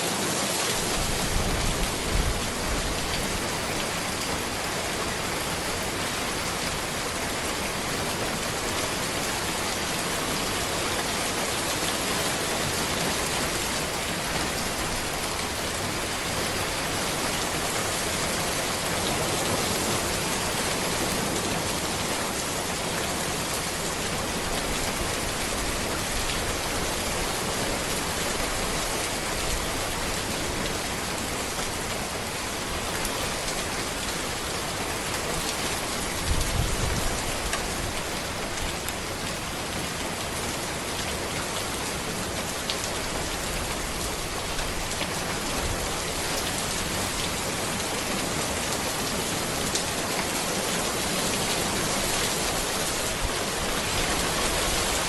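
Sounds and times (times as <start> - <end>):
rain on road and trees: 0.0 - 55.0.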